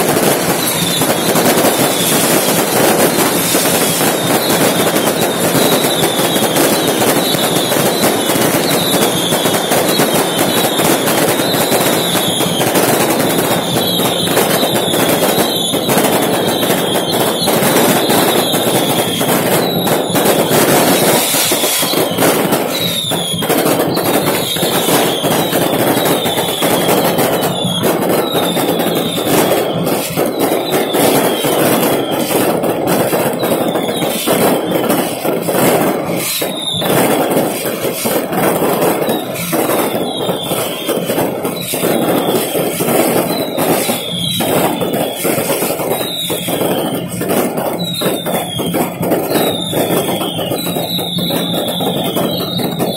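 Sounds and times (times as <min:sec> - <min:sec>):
firecrackers crackling and banging: 0:00.0 - 0:52.9
firework whistles falling in pitch: 0:00.0 - 0:52.9.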